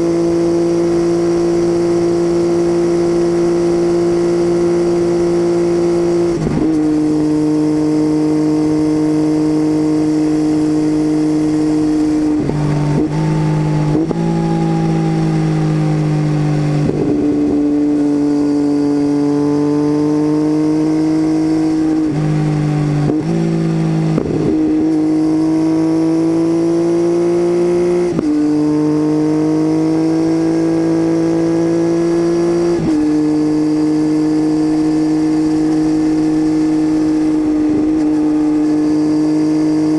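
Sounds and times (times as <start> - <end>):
motorcycle engine through loud exhaust: 0.0 - 39.9.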